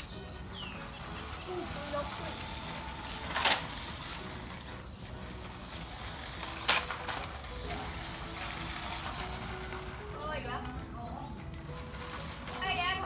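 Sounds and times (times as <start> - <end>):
toy car electric motor whirring: 0.0 - 13.0.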